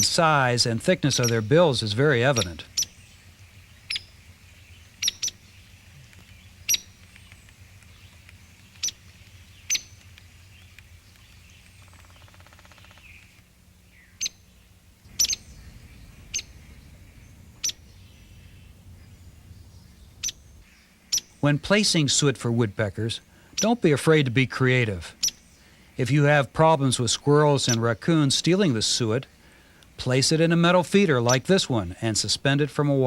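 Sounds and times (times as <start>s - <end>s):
woodpecker calls: 0.0s - 22.2s, 22.9s - 33.0s
faint low hum: 0.0s - 33.0s.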